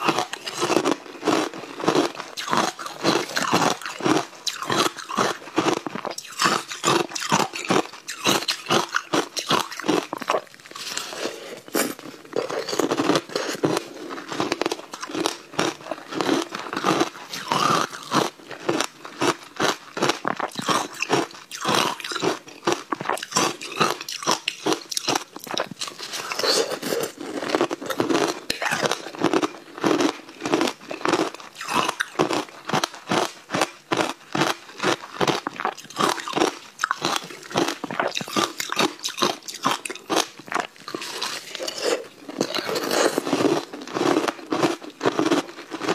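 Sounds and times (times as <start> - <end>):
ice crunching between teeth: 0.0 - 45.9.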